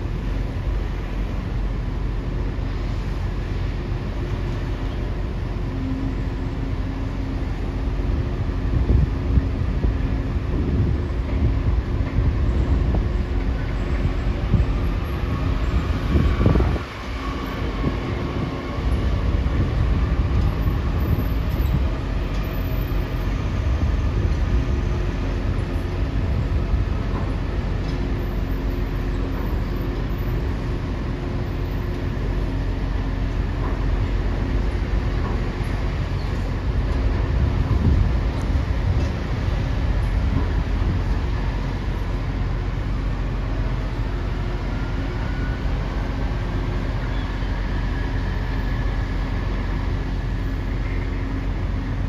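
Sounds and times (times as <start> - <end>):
heavy machinery rumble: 0.0 - 52.0.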